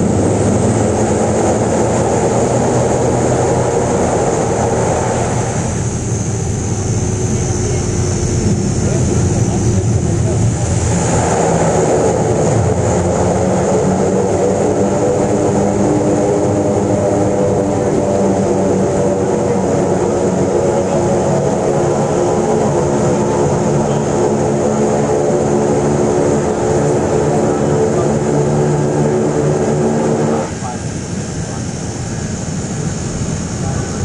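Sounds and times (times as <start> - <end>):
turboprop cabin drone: 0.0 - 34.0.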